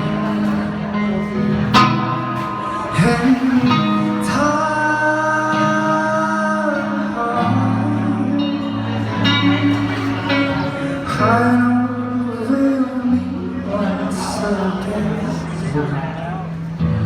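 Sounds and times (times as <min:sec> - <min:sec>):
guitar: 0:00.0 - 0:17.0
man singing: 0:02.4 - 0:16.4.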